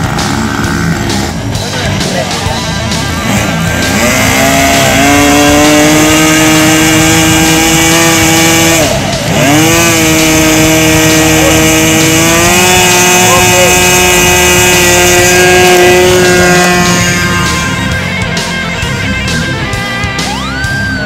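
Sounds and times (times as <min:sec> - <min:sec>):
model airplane engine: 0:00.0 - 0:01.8, 0:02.5 - 0:21.0.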